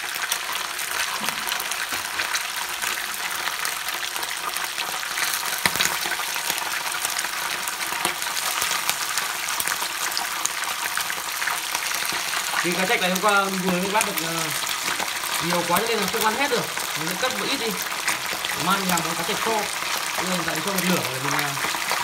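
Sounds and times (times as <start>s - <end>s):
fish deep-frying in fat: 0.0s - 22.0s.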